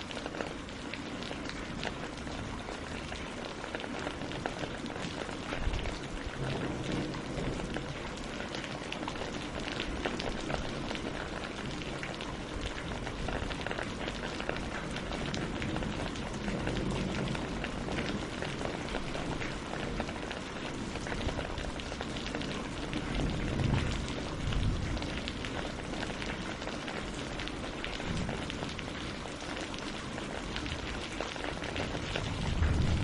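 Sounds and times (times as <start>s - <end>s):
rain on leaves and water: 0.0s - 33.0s.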